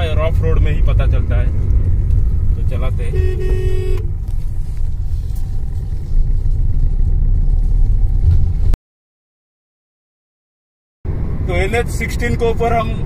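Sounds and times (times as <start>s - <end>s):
road and engine rumble in car: 0.0s - 8.8s, 11.1s - 13.0s.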